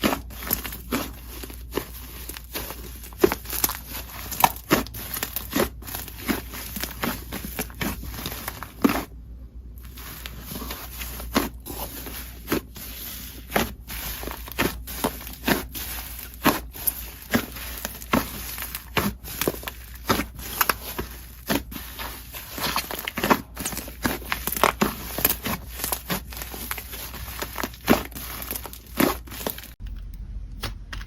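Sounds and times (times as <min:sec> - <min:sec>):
slime squishing by hand: 0:00.0 - 0:29.8.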